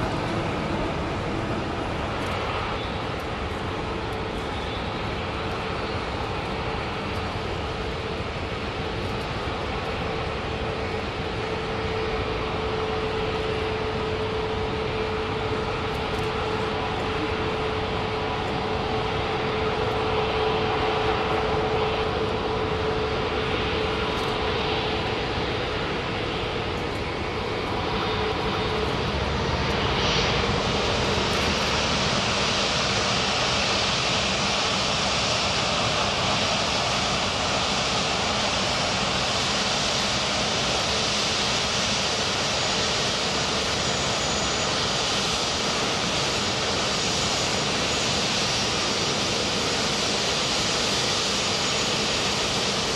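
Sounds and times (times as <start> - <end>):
faint engine whine: 0.0 - 52.9
jet engines rushing: 0.0 - 52.9.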